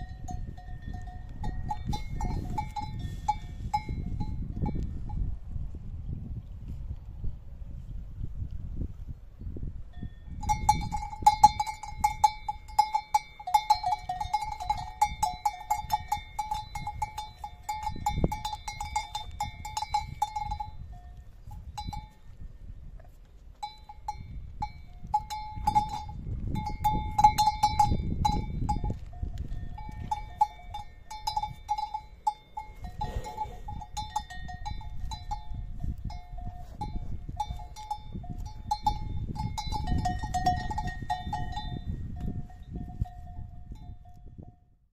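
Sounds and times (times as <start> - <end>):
cowbells clanking: 0.0 - 4.8, 10.0 - 22.4, 23.6 - 44.6.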